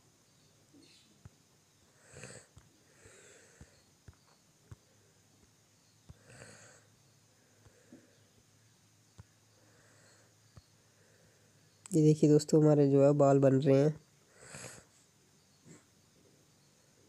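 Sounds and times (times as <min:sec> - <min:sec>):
faint breaths near microphone: 0:00.7 - 0:12.0, 0:14.0 - 0:17.0.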